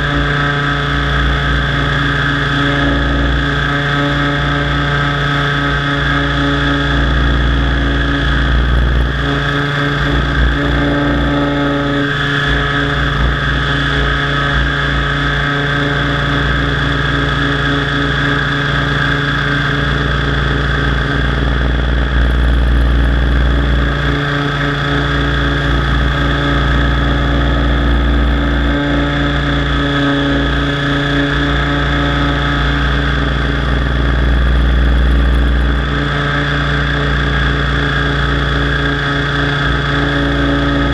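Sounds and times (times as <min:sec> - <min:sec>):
helicopter motor and rotor whine: 0:00.0 - 0:40.9
low rumble: 0:00.0 - 0:40.9.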